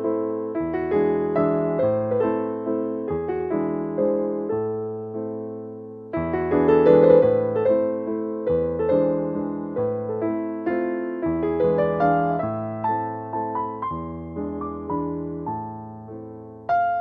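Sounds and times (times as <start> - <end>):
slow romantic piano music: 0.0 - 17.0.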